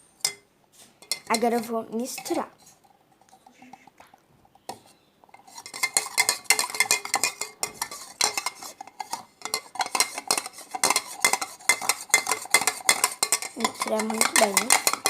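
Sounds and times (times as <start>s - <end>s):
spoon scraping and clinking container: 1.0s - 3.9s, 5.3s - 15.0s.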